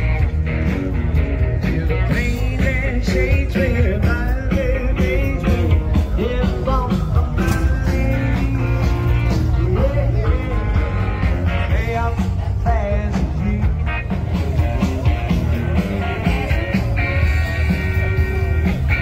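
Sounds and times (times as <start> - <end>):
rock and roll song with singing: 0.0 - 19.0.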